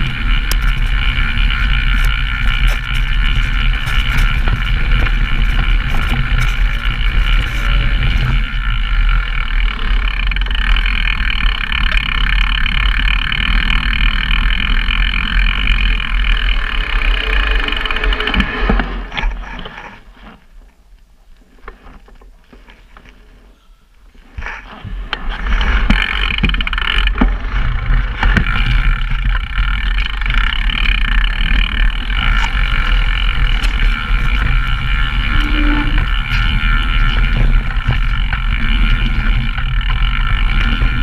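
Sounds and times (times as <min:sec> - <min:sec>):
scattered clicks: 0:00.0 - 0:19.8, 0:25.1 - 0:41.0
mountain bike tyre and riding noise: 0:00.0 - 0:41.0.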